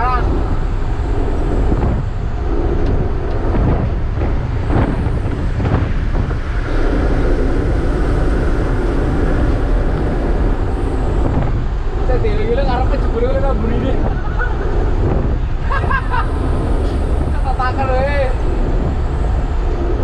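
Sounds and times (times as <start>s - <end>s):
engine and tyre rumble: 0.0s - 20.0s.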